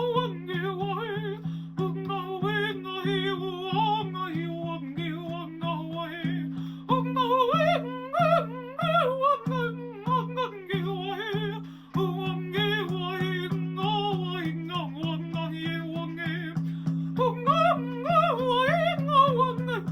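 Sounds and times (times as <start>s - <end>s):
woman singing wordlessly: 0.0s - 16.6s, 17.2s - 19.9s.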